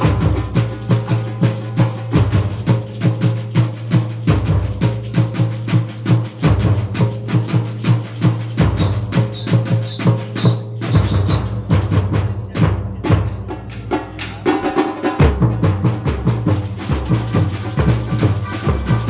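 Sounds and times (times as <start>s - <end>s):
bass drum beats: 0.0s - 19.0s
samba percussion ensemble: 0.0s - 19.0s.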